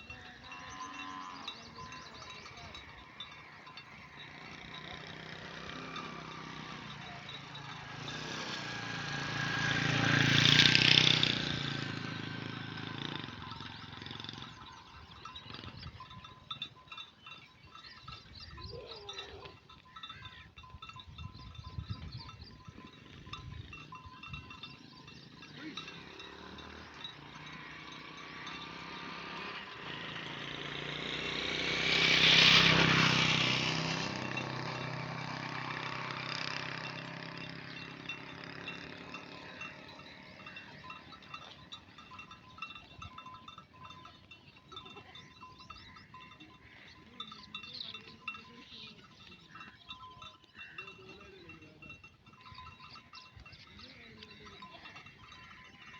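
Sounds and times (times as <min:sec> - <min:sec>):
small bells tinkling: 0:00.0 - 0:55.9.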